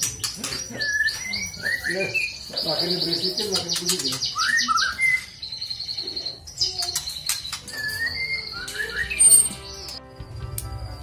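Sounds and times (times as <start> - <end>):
bird singing trills and whistles: 0.0 - 10.0.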